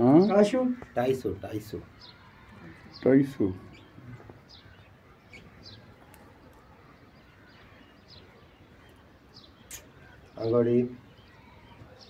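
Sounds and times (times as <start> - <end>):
faint bird chirps: 0.2 - 12.0.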